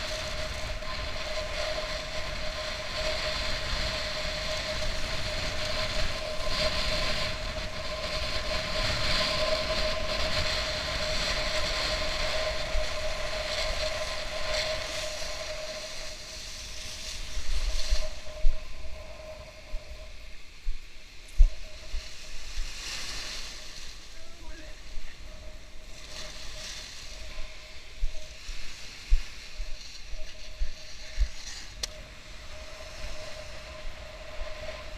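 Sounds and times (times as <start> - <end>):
steady humming tone: 0.0 - 34.9
wind and sea water rushing: 0.0 - 34.9.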